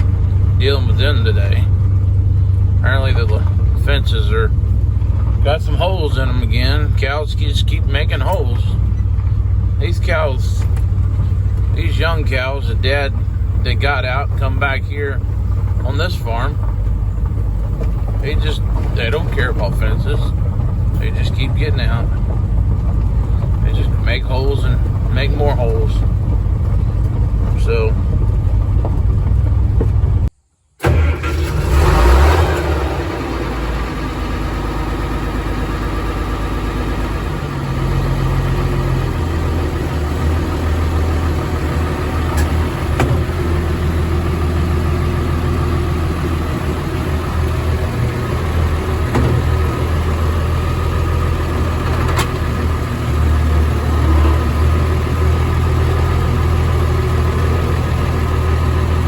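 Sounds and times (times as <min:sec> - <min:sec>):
engine starting and running: 0:00.0 - 0:59.0.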